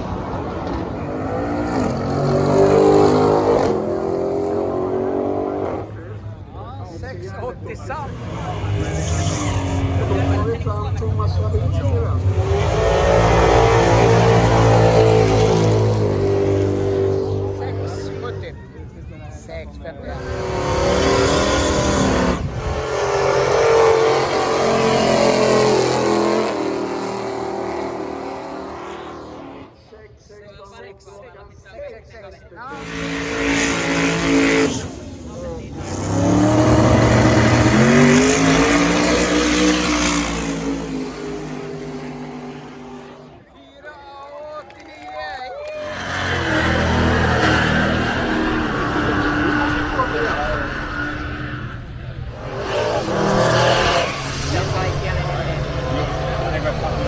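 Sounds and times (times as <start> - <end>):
drag racing cars accelerating: 0.0 - 30.8, 31.4 - 43.6, 44.6 - 57.0.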